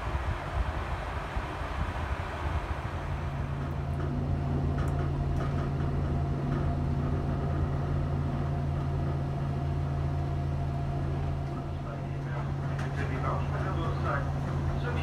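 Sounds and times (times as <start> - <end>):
train interior low hum: 0.0 - 15.0.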